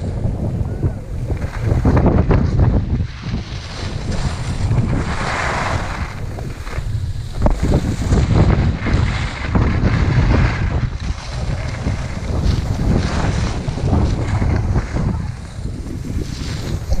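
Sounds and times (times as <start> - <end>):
skis scraping on snow: 0.0 - 17.0
wind buffeting microphone: 0.0 - 17.0.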